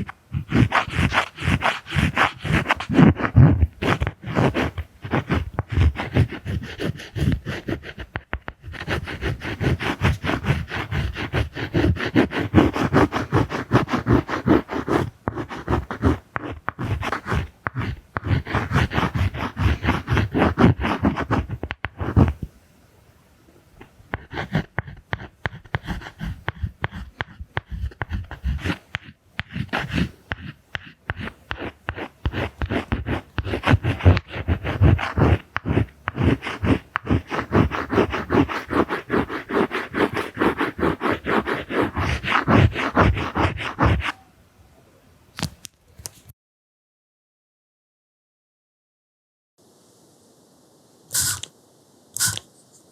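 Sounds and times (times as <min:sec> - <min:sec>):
drawing strokes scratching: 0:00.0 - 0:22.5, 0:23.8 - 0:44.2, 0:51.1 - 0:51.5, 0:52.2 - 0:52.9.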